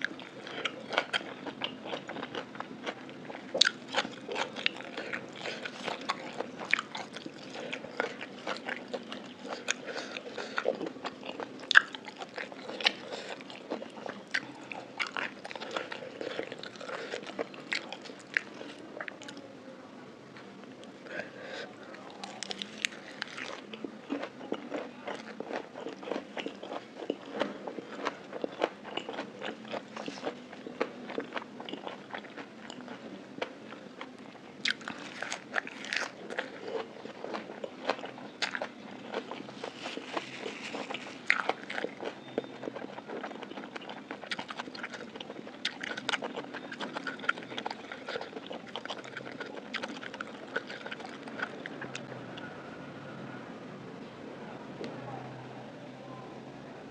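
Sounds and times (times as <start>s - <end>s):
chewing lettuce crunches: 0.0s - 19.2s, 22.1s - 33.5s, 34.1s - 52.1s.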